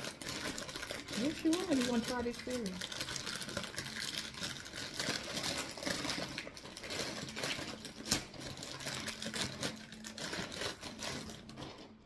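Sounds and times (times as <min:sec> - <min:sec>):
plastic bag crinkling: 0:00.0 - 0:12.0
plastic bag snapping: 0:00.0 - 0:12.0.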